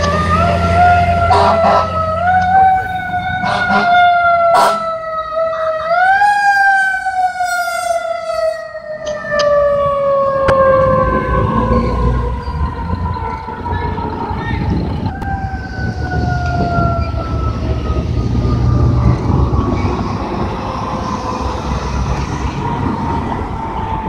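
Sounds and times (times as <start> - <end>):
fire truck siren wailing: 0.0 - 24.0.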